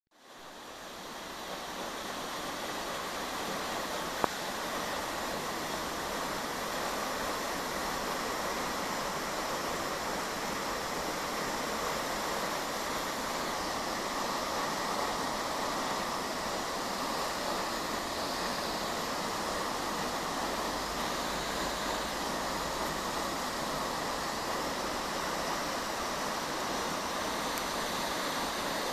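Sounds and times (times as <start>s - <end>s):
rush of falling water: 0.1s - 28.9s.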